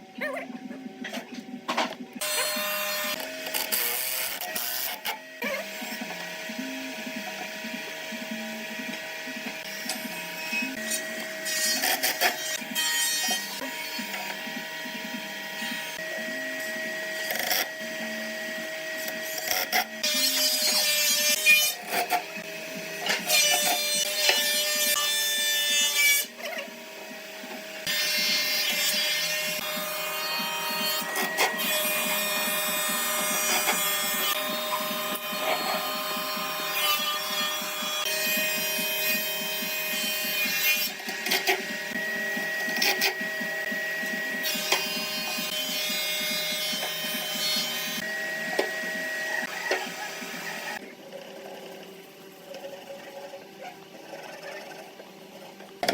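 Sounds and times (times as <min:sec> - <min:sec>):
power tool cutting wood: 0:02.2 - 0:51.0.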